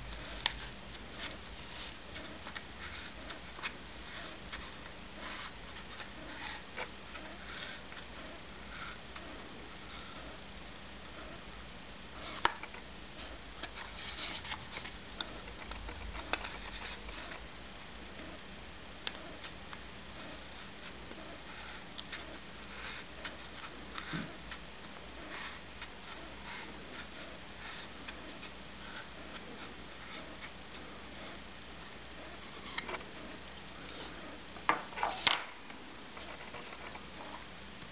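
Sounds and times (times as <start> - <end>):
high-pitched electronic whine: 0.0 - 37.9.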